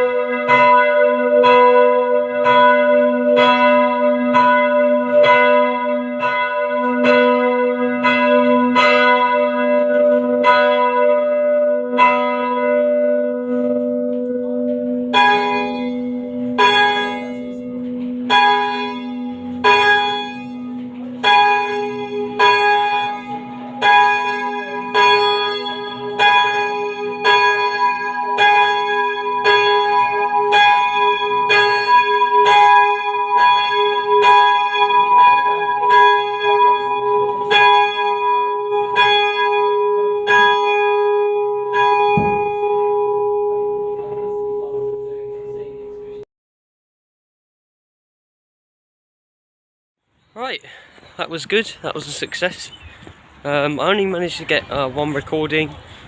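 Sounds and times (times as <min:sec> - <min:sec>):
higher church bell striking: 0:00.0 - 0:46.2
lower church bell striking: 0:00.0 - 0:46.2.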